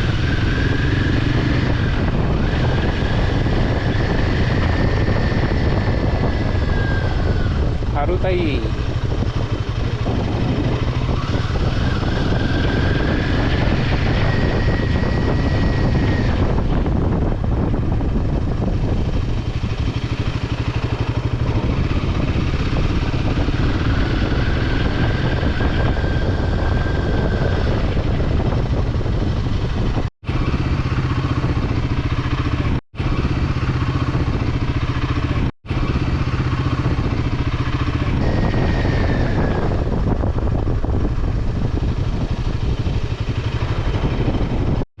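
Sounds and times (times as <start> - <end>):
motorcycle engine hum: 0.0 - 44.9
wind rush on microphone: 0.0 - 45.0.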